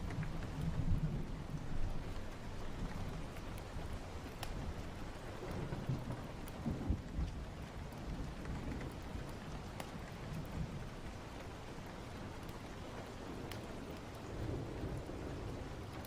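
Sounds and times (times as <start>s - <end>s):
low rumbling thunder: 0.0s - 4.0s, 4.6s - 11.2s, 11.8s - 16.0s
fire crackles: 0.0s - 16.0s
steady rain: 0.0s - 16.0s.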